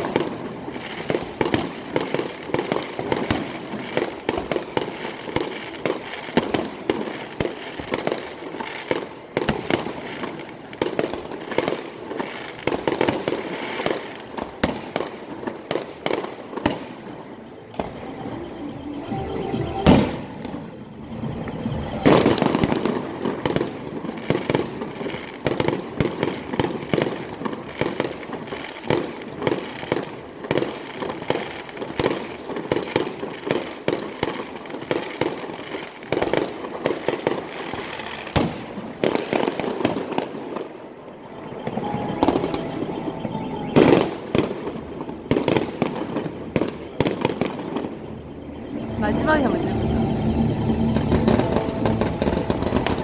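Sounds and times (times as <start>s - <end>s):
fireworks bangs and crackling pops: 0.0s - 18.1s, 19.8s - 42.6s, 43.7s - 49.7s.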